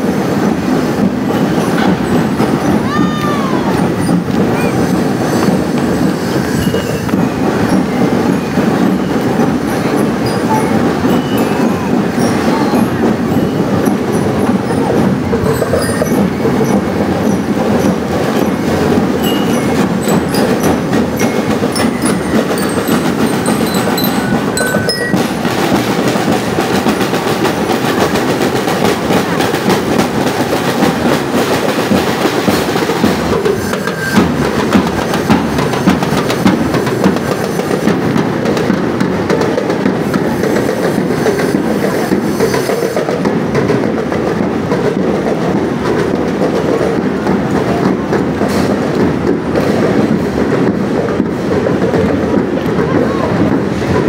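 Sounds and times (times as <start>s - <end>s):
marching snare drums: 0.0s - 54.0s.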